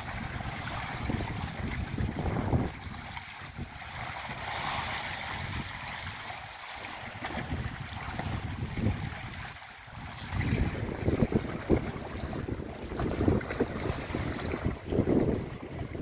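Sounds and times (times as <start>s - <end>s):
wind gusting on microphone: 0.0s - 6.3s, 7.1s - 16.0s
sea waves washing against rocks: 0.0s - 16.0s.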